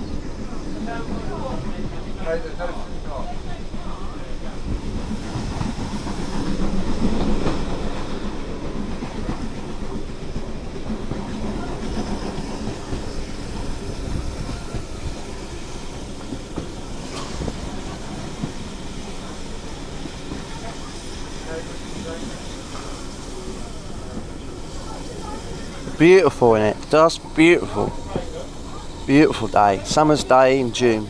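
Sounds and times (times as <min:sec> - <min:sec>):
train rumble: 0:00.0 - 0:31.0
wheels clacking on track: 0:00.0 - 0:31.0.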